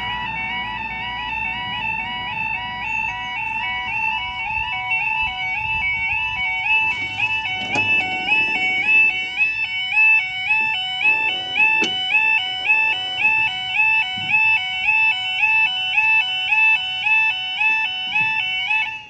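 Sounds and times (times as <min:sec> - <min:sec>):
two-tone warning alarm: 0:00.0 - 0:19.0.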